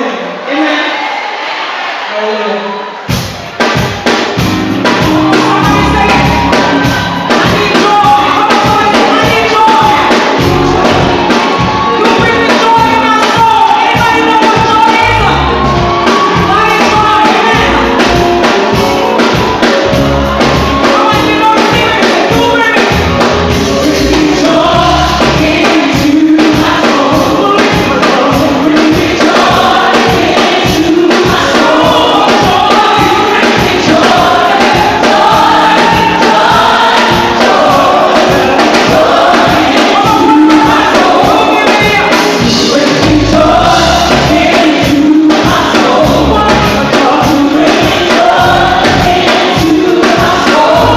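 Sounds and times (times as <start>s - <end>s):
choir singing loudly: 0.0s - 3.1s, 4.9s - 22.3s, 23.5s - 50.9s
band with steady beat: 3.0s - 50.9s.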